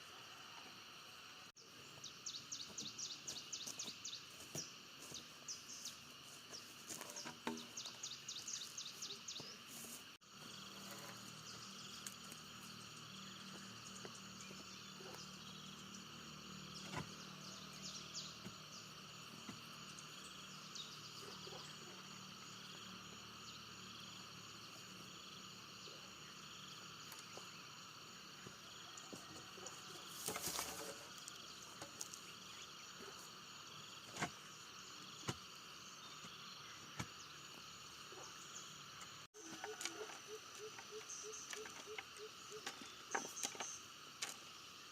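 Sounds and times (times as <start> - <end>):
insects trilling and droning: 0.0 - 44.9.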